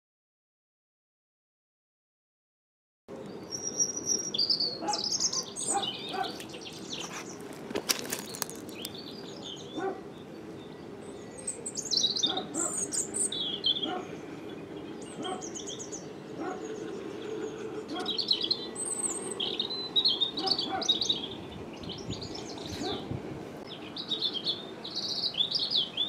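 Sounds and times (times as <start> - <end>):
birds singing and chirping: 3.1 - 26.0.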